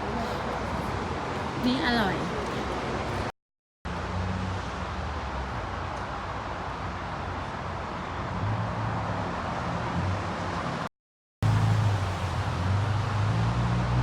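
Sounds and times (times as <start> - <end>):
car road noise drone: 0.0 - 3.3, 3.9 - 14.0.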